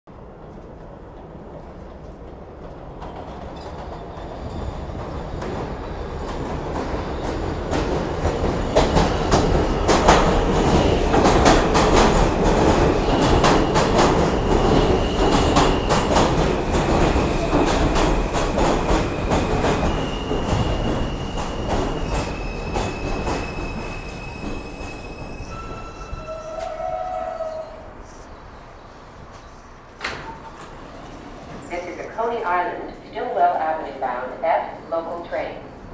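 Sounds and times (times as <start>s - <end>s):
subway train rumble: 0.1s - 35.9s.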